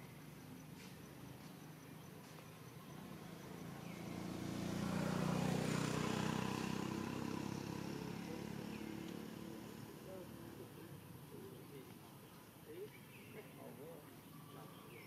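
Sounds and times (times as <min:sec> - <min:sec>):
passing vehicle engine hum: 0:00.6 - 0:12.7.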